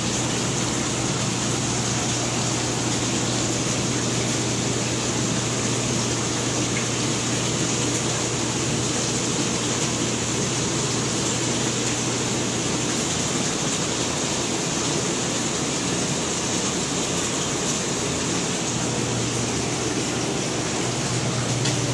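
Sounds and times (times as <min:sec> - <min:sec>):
circulating water rushing: 0:00.0 - 0:21.9
pumps humming: 0:00.0 - 0:21.9.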